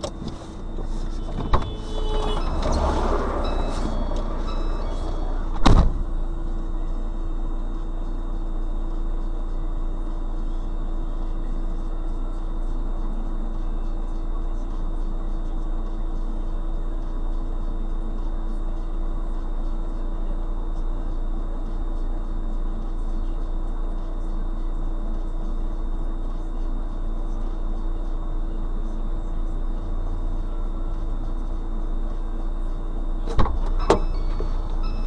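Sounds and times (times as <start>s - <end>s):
car engine idling: 0.0s - 35.0s
constant tone: 0.0s - 35.0s.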